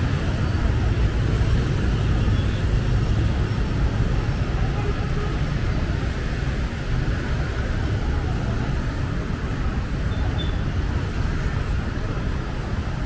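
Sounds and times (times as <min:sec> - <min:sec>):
cars passing: 0:00.0 - 0:13.0
motorbikes passing: 0:00.0 - 0:13.0.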